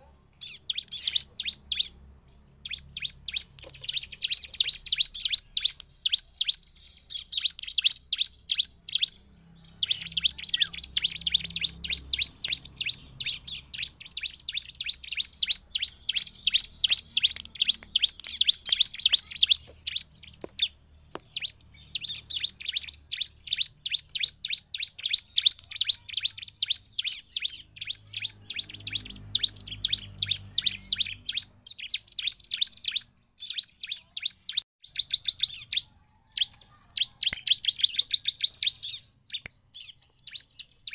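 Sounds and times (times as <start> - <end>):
bird singing rapid high chirps: 0.0 - 40.9.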